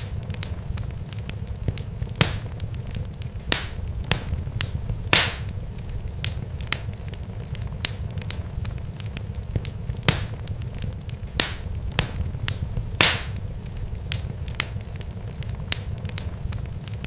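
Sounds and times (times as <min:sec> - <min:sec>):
sharp crackles and pops: 0:00.0 - 0:17.0
steady low rumble: 0:00.0 - 0:17.0.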